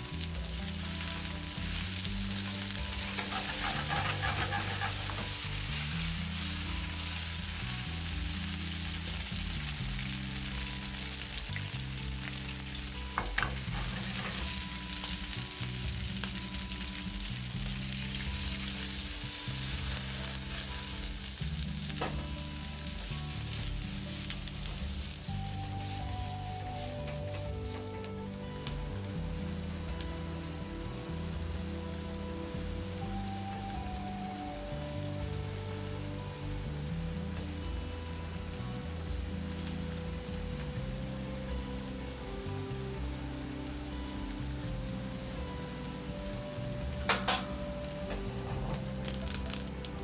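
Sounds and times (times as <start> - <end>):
food sizzling in a pan: 0.0 - 50.0.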